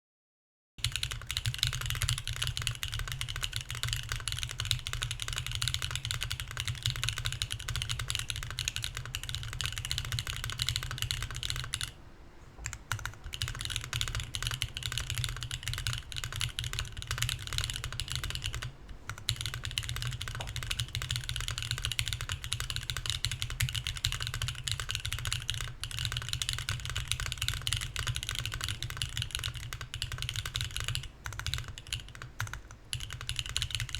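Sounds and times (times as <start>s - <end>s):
mechanical keyboard typing: 0.8s - 12.0s, 12.6s - 33.9s.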